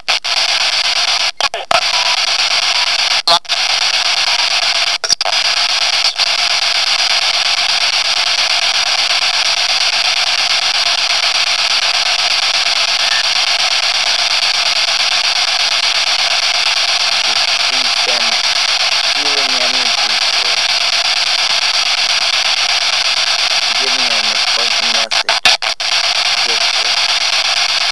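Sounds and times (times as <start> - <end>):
loud static hiss: 0.0 - 27.9.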